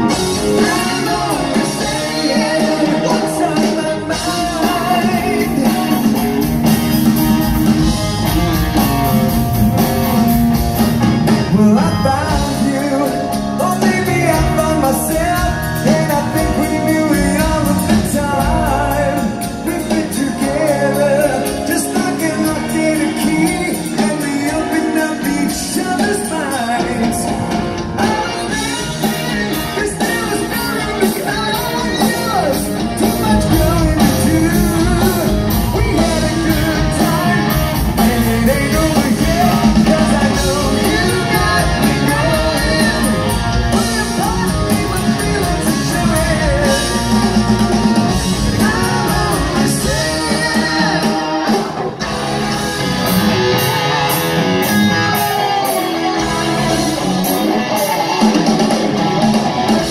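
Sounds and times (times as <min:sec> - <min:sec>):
person singing lead vocal: 0:00.0 - 0:10.4, 0:11.0 - 0:59.9
rock band playing: 0:00.0 - 0:59.9.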